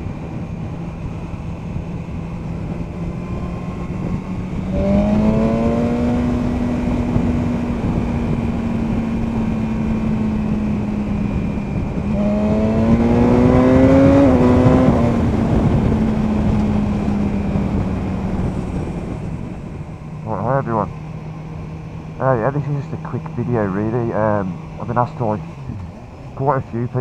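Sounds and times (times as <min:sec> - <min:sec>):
motorcycle engine cruising: 0:00.0 - 0:27.0
wind rush on microphone: 0:00.0 - 0:27.0.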